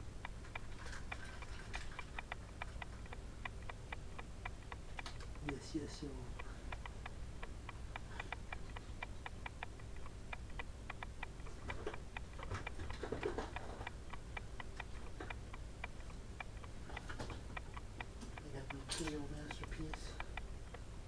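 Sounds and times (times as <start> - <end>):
rapid ticking: 0.0 - 21.0.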